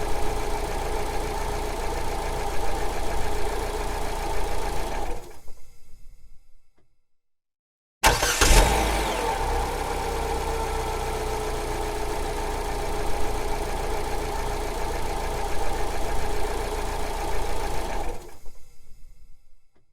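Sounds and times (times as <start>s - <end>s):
car engine starting and idling: 0.0s - 6.4s, 8.0s - 19.5s.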